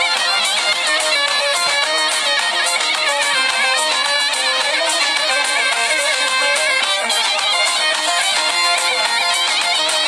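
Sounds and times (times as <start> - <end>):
folk music with ornamented melody: 0.0 - 10.0.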